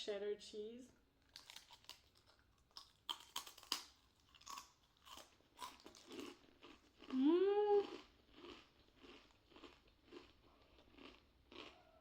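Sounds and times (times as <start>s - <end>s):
rice crackers crunched by teeth: 1.2s - 7.2s, 7.8s - 11.9s.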